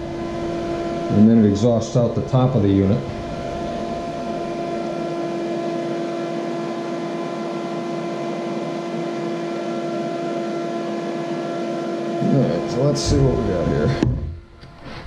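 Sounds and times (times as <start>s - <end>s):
fan rushing air with motor hum: 0.0s - 15.0s.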